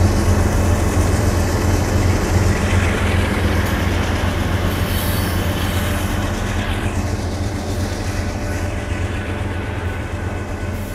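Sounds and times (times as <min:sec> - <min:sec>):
diesel locomotive drone: 0:00.0 - 0:10.9
train wheels clattering: 0:00.0 - 0:10.9.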